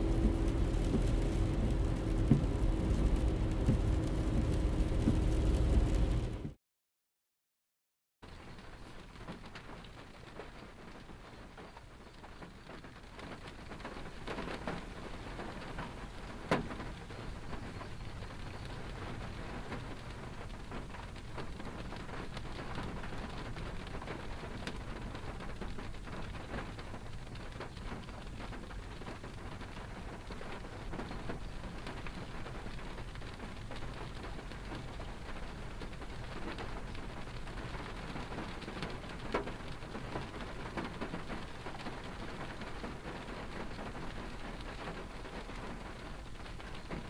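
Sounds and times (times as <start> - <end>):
car road and engine rumble: 0.0 - 6.6, 13.8 - 47.0
dense crackling patter: 0.0 - 6.6, 13.3 - 47.0.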